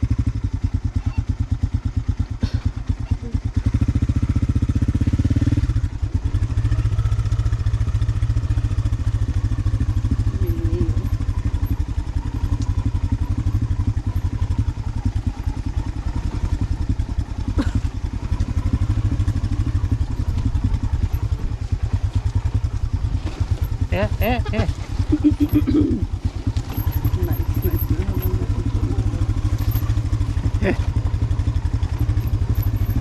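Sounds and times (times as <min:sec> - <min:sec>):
motorcycle engine chugging: 0:00.0 - 0:33.0.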